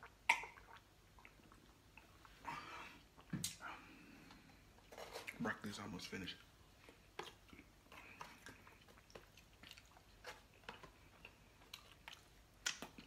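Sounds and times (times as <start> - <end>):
chewing vegetables: 0.0 - 13.0.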